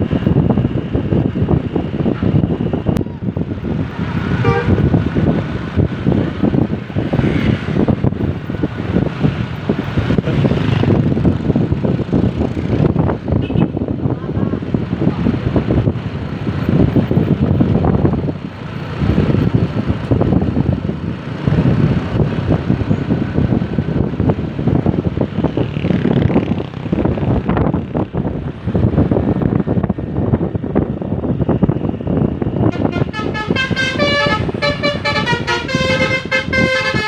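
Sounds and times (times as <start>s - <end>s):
vehicle rumble on road: 0.0s - 37.0s
wind buffeting microphone: 0.0s - 37.0s.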